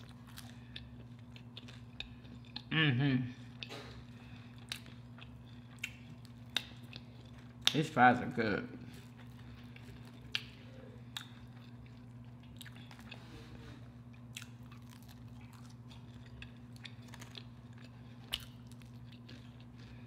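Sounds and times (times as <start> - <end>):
chewing and crunching fries: 0.0 - 20.0.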